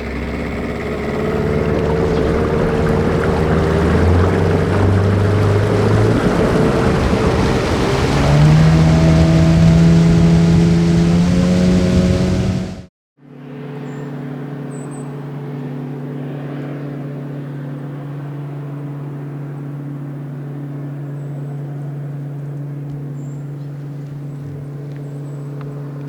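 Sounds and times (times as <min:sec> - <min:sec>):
boat motor droning: 0:00.0 - 0:26.0.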